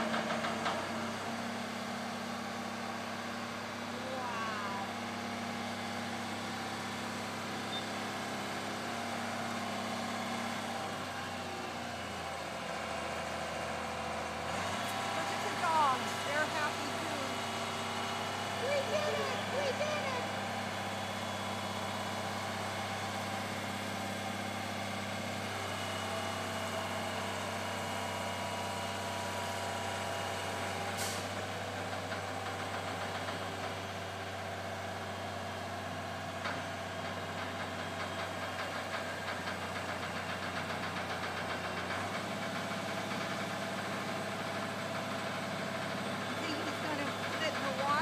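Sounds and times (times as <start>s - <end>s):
crane engine running: 0.0s - 48.0s.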